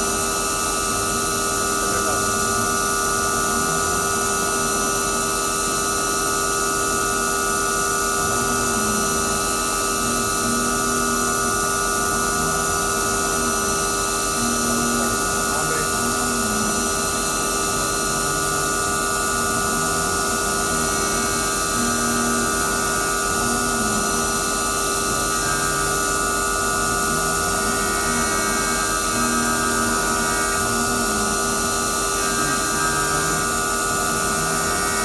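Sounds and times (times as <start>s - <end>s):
low shifting machining tones: 0.0s - 35.0s
milling machine spindle whine: 0.0s - 35.0s.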